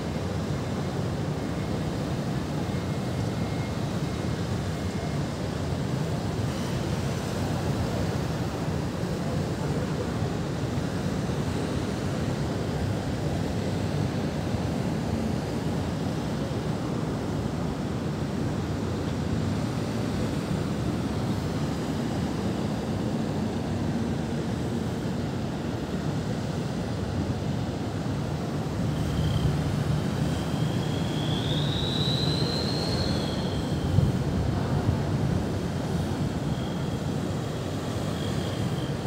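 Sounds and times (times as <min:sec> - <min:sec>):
city traffic rumble: 0:00.0 - 0:39.0.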